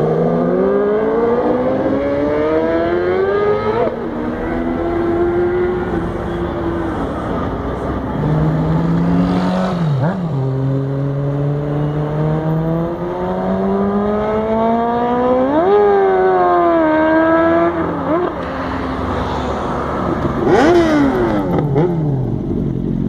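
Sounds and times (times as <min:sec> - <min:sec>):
motorcycle engine revving: 0:00.0 - 0:18.5, 0:20.1 - 0:23.0.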